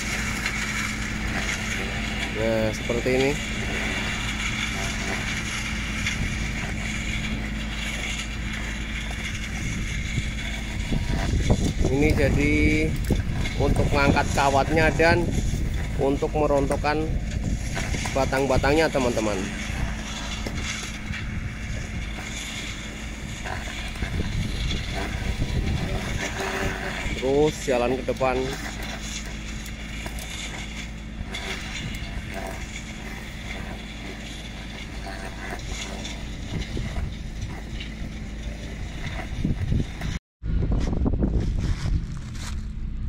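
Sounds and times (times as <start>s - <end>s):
pruning machine humming: 0.0s - 40.2s.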